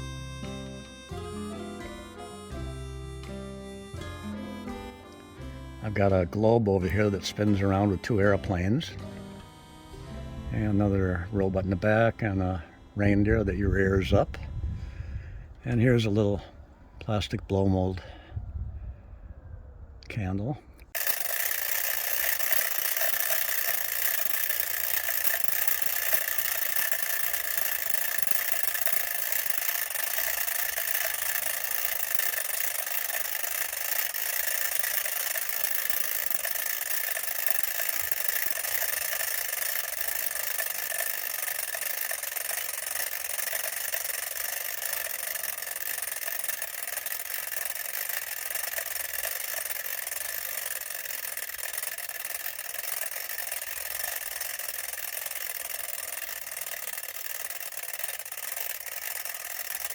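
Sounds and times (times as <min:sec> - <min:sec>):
mechanical toy whirring rattle: 0:00.0 - 0:09.0, 0:09.9 - 0:14.8, 0:20.9 - 0:59.9.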